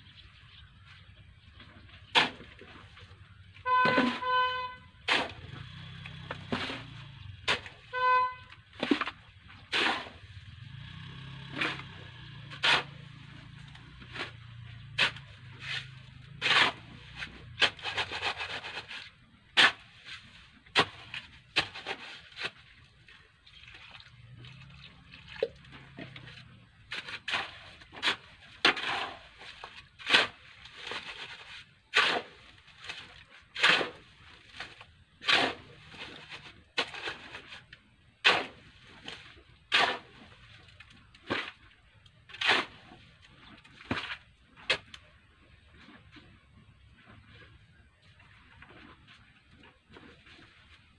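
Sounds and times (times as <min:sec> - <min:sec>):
shovel scraping sand and cement: 0:02.0 - 0:22.8, 0:25.8 - 0:50.9.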